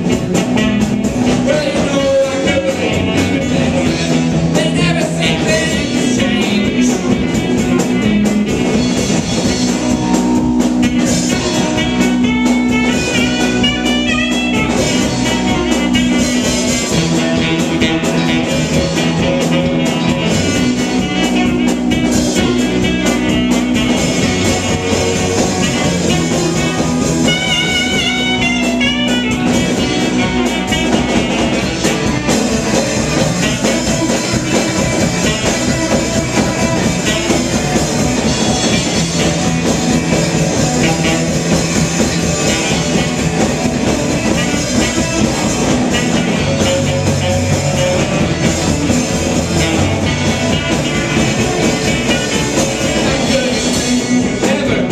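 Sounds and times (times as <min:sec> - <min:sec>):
bending lead line: 0:00.0 - 0:54.9
drum kit: 0:00.0 - 0:54.9
electric bass: 0:00.0 - 0:54.9
electric guitar: 0:00.0 - 0:54.9
saxophone: 0:00.0 - 0:54.9.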